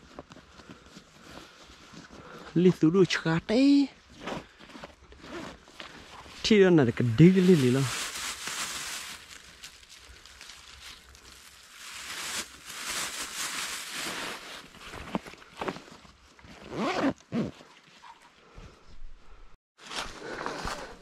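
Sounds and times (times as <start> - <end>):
clothing and leaves rustling: 0.0 - 17.0.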